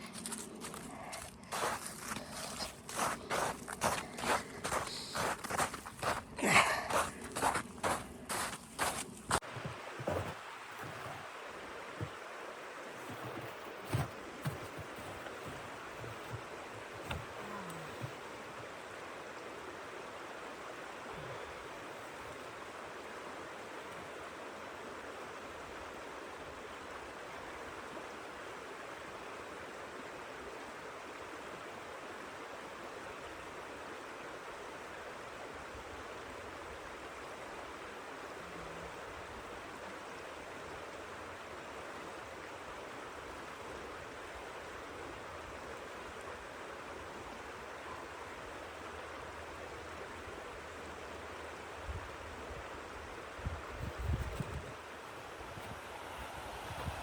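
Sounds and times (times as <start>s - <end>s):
blizzard wind: 0.0s - 49.2s, 51.5s - 57.0s.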